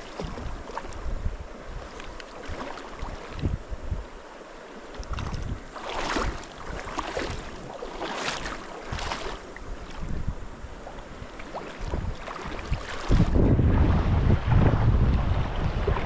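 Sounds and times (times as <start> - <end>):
wind buffeting microphone: 0.0 - 4.2, 5.0 - 16.0
river water running: 0.0 - 16.0.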